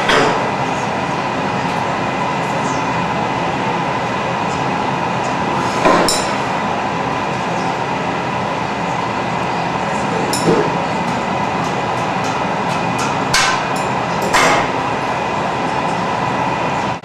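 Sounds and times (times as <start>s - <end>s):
furnace and burners roaring: 0.0s - 17.0s.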